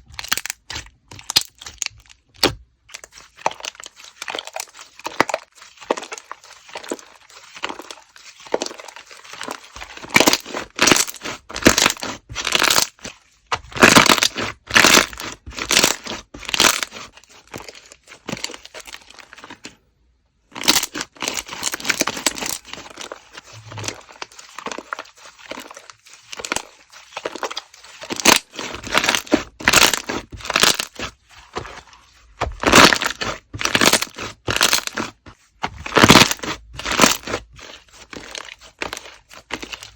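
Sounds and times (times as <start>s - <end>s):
slime squishing and popping: 0.0s - 19.7s, 20.5s - 39.9s.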